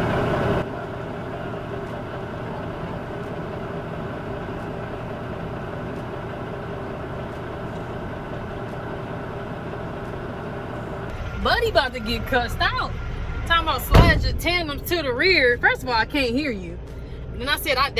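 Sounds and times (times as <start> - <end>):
diesel engine droning: 0.0 - 17.9.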